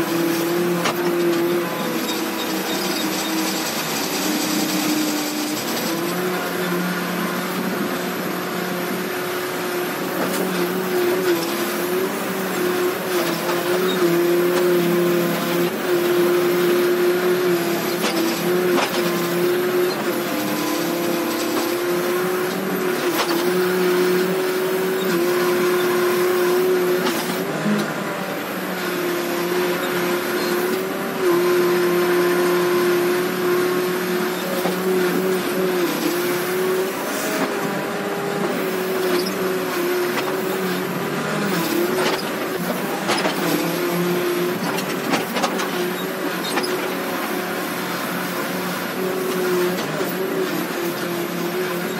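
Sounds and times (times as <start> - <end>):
backhoe engine and hydraulics whining: 0.0 - 51.9.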